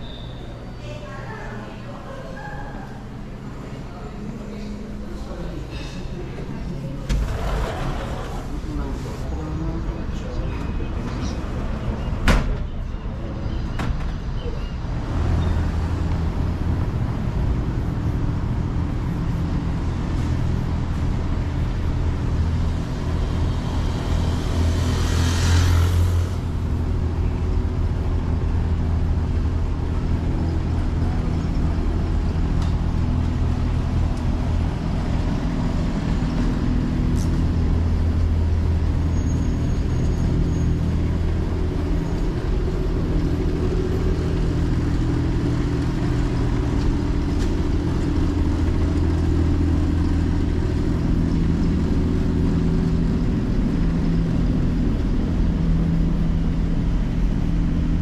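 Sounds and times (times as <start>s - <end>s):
engine hum: 0.0s - 58.0s
street noise: 0.0s - 58.0s.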